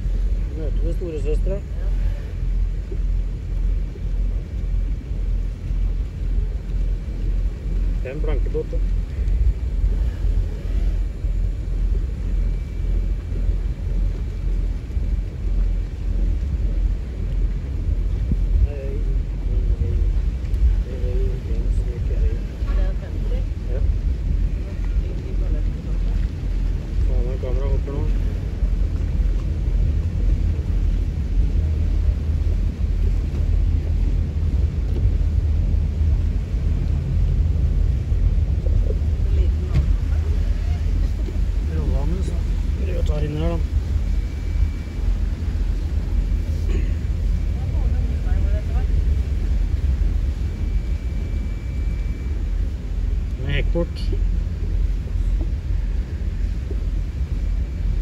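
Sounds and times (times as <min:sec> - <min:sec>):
motorboat engine rumble: 0:00.0 - 0:58.0
wind buffeting microphone: 0:00.0 - 0:58.0.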